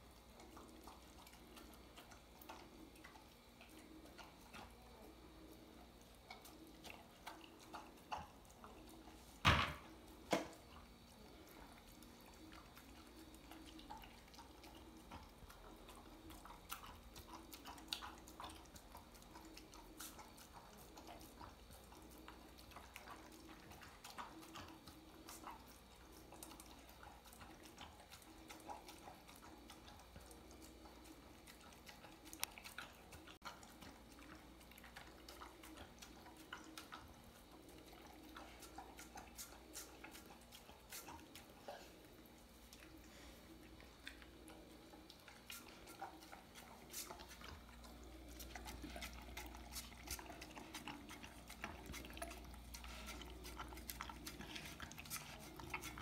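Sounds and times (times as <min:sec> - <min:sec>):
dog eating from metal bowl: 0:00.0 - 0:56.0
low steady hum: 0:00.0 - 0:56.0.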